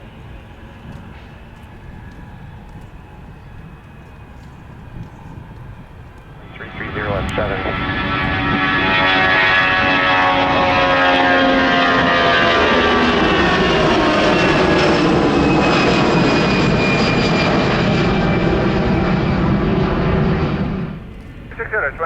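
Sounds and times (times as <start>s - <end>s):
jet engines passing: 0.0s - 22.0s.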